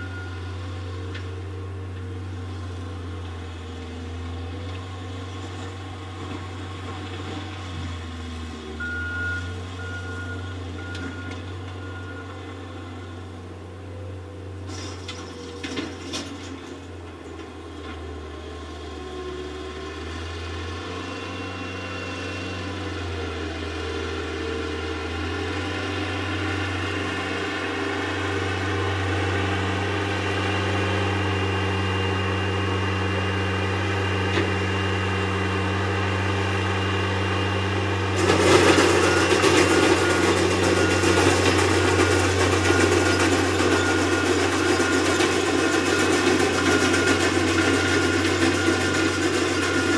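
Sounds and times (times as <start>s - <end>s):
skid-steer loader engine running: 0.0s - 49.9s.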